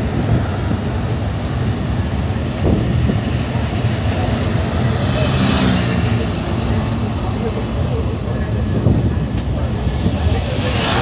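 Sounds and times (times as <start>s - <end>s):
moving vehicle rumble: 0.0s - 11.0s
vehicle passing with whoosh: 0.0s - 11.0s.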